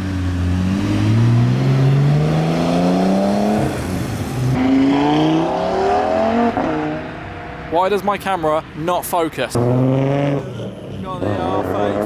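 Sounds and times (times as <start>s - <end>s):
car engine accelerating: 0.0s - 7.3s, 9.5s - 12.0s.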